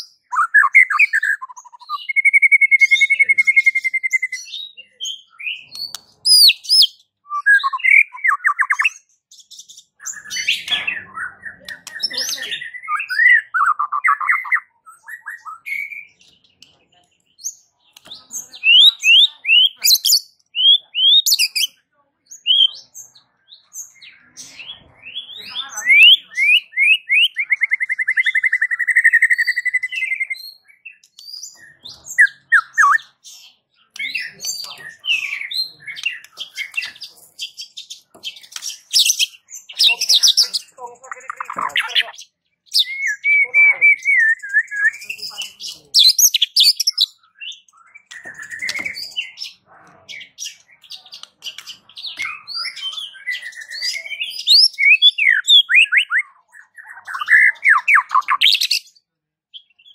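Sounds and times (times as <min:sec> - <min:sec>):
songbird singing whistles and trills: 0:00.0 - 0:16.7, 0:17.3 - 0:49.6, 0:50.2 - 0:59.9.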